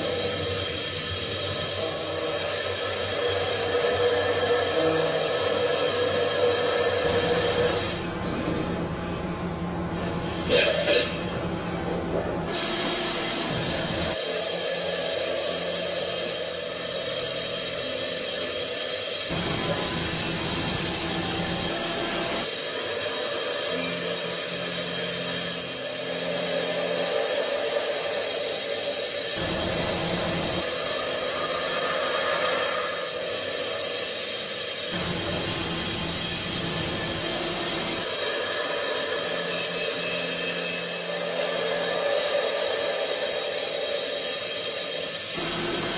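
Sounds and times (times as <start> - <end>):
milling machine hiss with tones: 0.0 - 8.3, 10.2 - 45.9.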